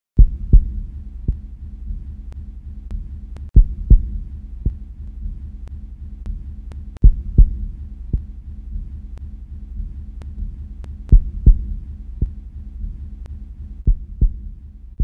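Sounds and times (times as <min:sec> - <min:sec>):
deep heartbeat thumps: 0:00.2 - 0:15.0.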